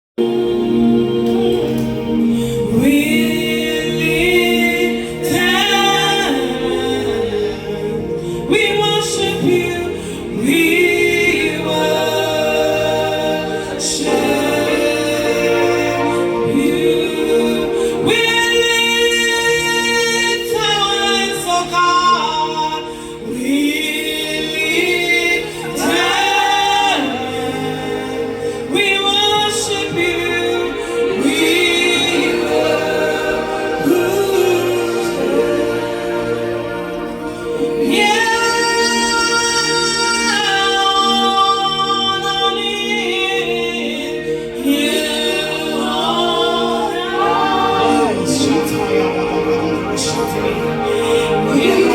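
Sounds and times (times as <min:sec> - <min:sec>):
gospel singing voices: 0:00.0 - 0:51.9
sustained musical backing: 0:00.2 - 0:51.9.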